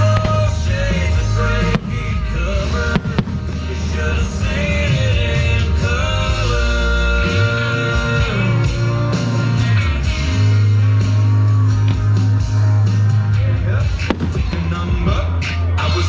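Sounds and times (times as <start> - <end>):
song with singing and guitar: 0.0 - 16.0
steady bass line: 0.0 - 16.0.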